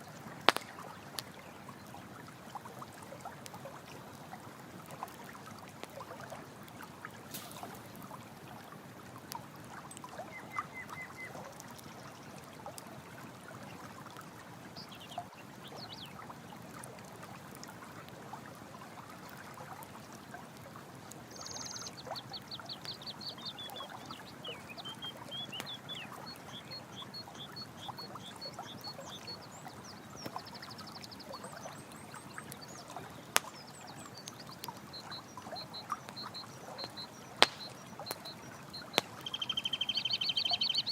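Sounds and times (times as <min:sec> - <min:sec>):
campfire crackling: 0:00.0 - 0:40.9
stream water running: 0:00.0 - 0:40.9.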